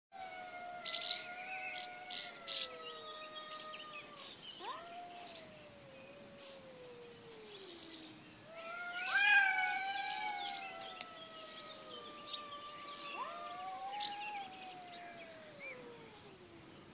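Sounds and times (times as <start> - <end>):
cats yowling: 0.2 - 16.8.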